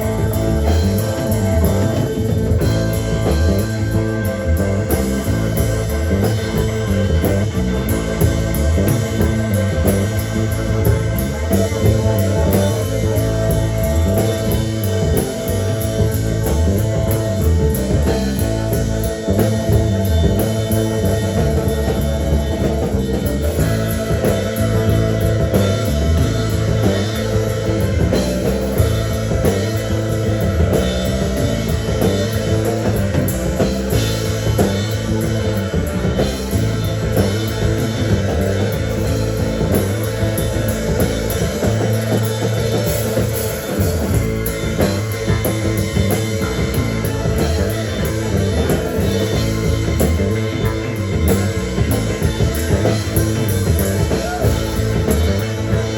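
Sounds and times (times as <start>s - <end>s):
rock band playing live: 0.0s - 55.9s.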